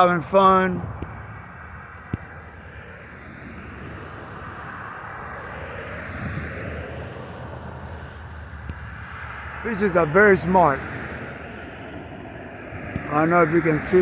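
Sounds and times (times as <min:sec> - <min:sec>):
distant motor vehicle rumble: 0:00.0 - 0:14.0.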